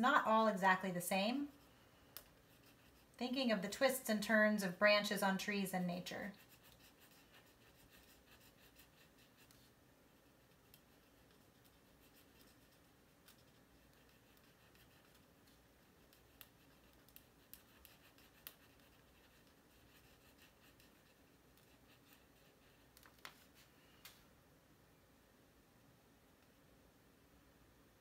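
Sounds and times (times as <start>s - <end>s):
marker scratching on paper: 0.0s - 23.7s.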